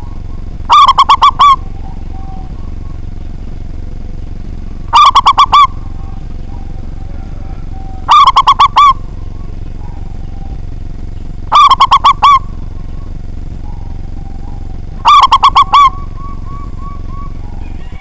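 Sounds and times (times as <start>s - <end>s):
dove cooing: 0.0s - 18.0s
steady low hum: 0.0s - 18.0s.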